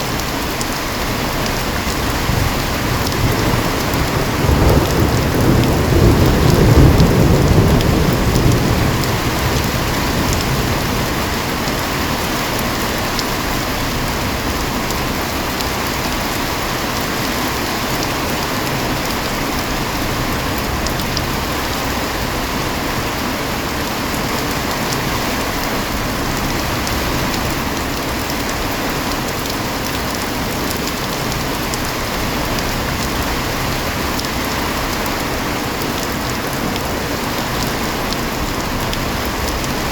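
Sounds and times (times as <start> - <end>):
heavy rain falling: 0.0 - 39.9
low rumble of thunder: 1.5 - 36.3.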